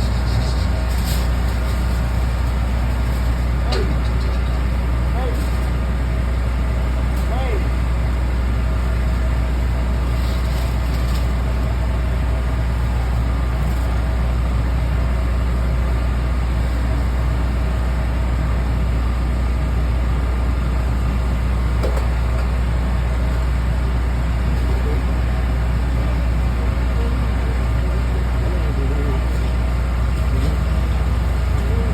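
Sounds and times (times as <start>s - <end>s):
low machine hum: 0.0s - 31.9s.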